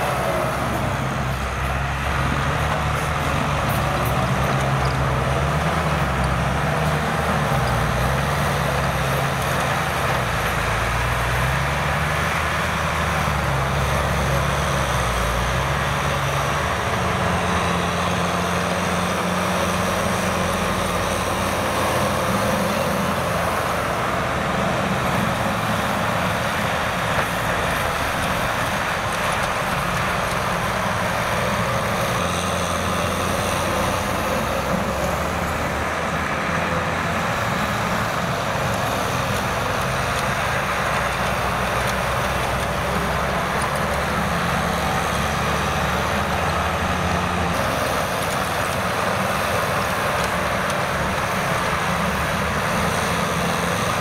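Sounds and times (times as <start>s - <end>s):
rotary tiller churning soil: 0.0s - 54.0s
tractor diesel engine under load: 0.0s - 54.0s.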